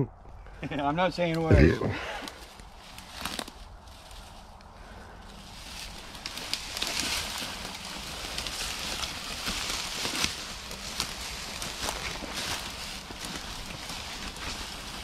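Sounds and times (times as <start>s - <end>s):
carcass dragged through dry brush: 1.2s - 15.0s
footsteps crunching: 1.2s - 15.0s
twigs snapping: 2.2s - 4.7s, 5.4s - 15.0s.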